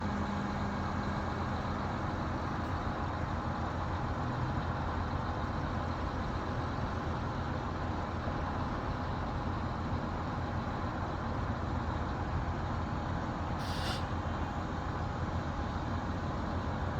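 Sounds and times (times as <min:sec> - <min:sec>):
diesel engine rumble: 0:00.0 - 0:16.9.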